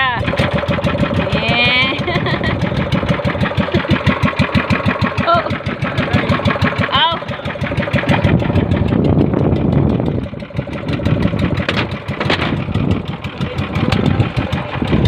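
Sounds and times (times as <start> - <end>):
boat engine running steadily: 0.0 - 15.0.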